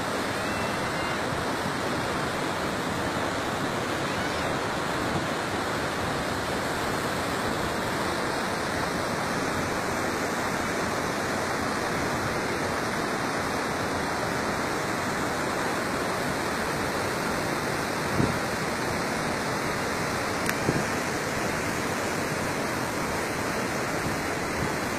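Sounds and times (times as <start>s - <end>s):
water rushing over rocks: 0.0s - 24.9s.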